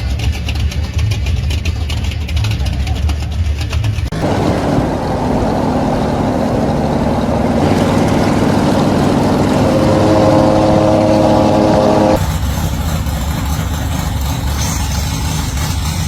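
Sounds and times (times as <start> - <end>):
hot rod engine running: 0.0 - 16.0.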